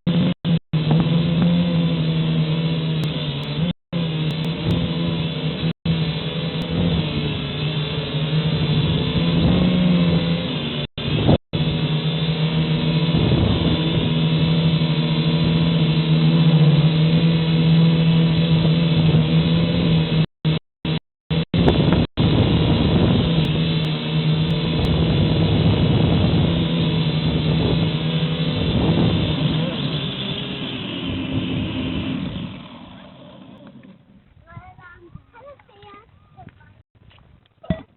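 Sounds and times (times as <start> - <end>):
drone propellers whirring: 0.1 - 34.4.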